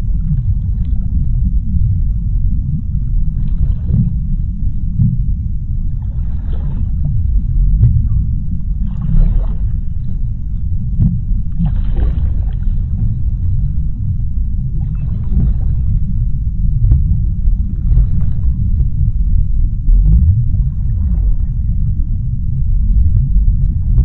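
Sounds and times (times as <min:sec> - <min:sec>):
deep underwater rumble: 0:00.0 - 0:24.0.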